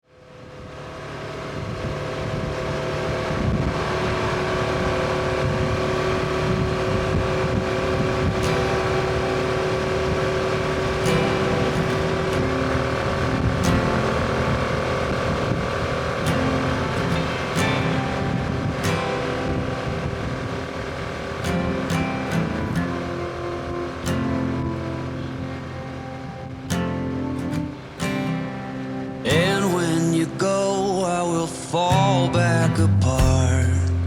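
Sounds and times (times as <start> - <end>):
motorcycle engine running: 0.0 - 30.8, 33.0 - 34.0
wind noise on microphone: 1.4 - 30.8.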